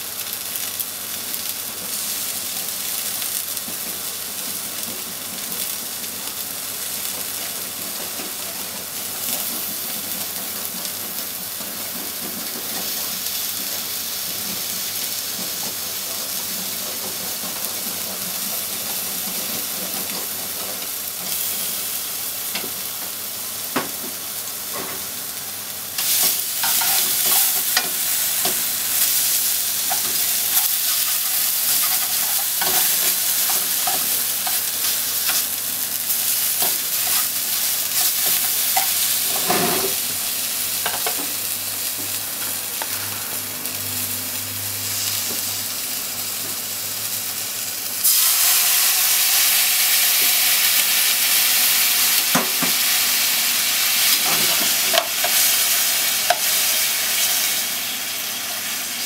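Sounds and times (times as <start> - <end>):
seafood sizzling in oil: 0.0 - 59.0.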